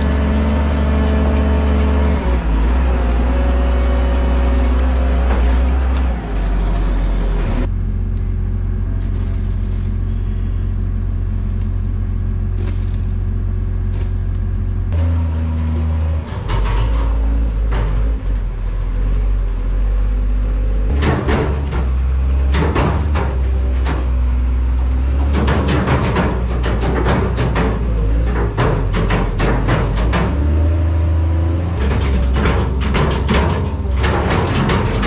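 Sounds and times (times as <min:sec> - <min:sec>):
diesel engine droning: 0:00.0 - 0:35.0
loader clanks and rattles: 0:00.0 - 0:35.0.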